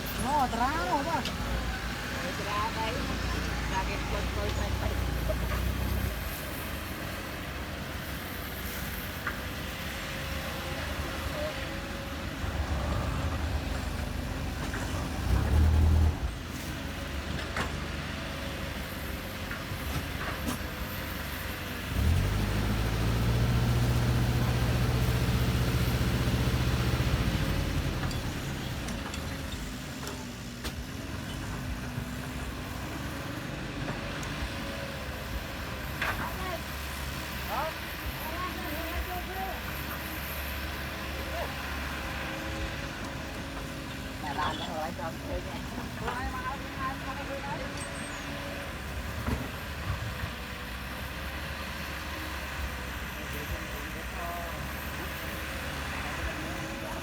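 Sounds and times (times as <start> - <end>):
construction machine engine running: 0.0 - 57.0.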